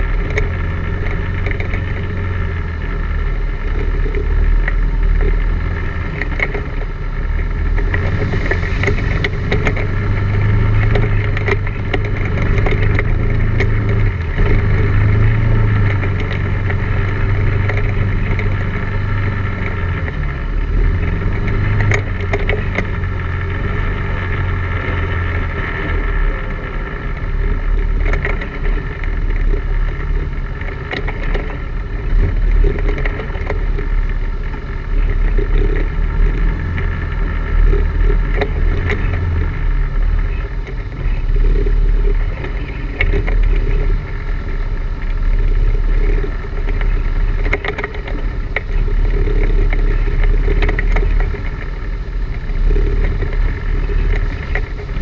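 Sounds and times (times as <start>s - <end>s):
atv engine running: 0.0s - 55.0s
knocks and rattles over rocks: 0.0s - 55.0s.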